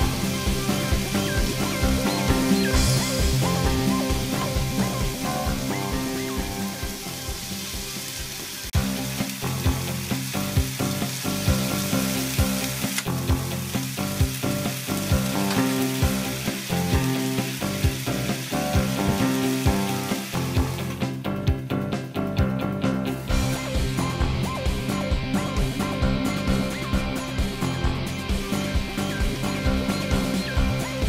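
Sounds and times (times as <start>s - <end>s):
meat sizzling in hot oil: 0.0s - 21.2s, 23.1s - 31.0s
background music with beat: 0.0s - 31.0s.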